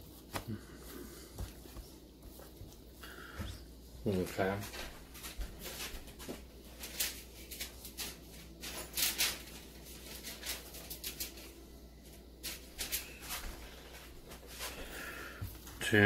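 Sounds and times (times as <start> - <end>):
faint low hum: 0.0 - 16.0
hands kneading bread dough: 0.0 - 16.0.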